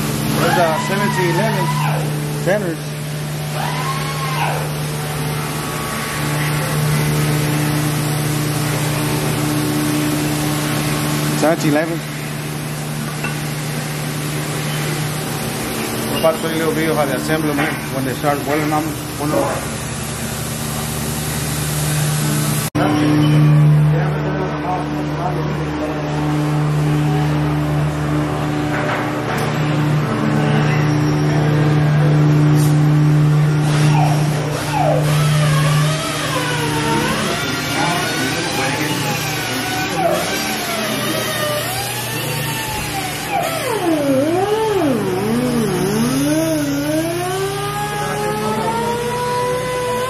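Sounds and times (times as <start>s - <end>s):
low machine hum: 0.0s - 50.0s
motor engine whine: 0.0s - 50.0s.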